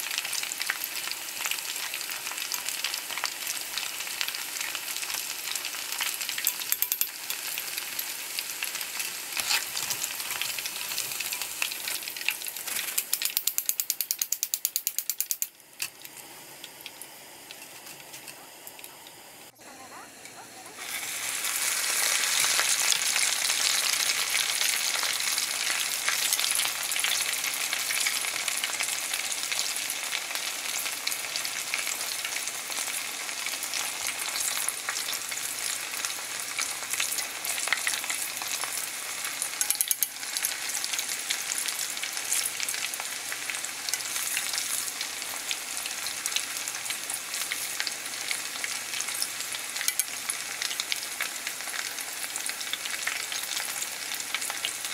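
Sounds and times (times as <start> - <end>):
meat deep-frying in oil: 0.0 - 20.1, 20.7 - 54.9.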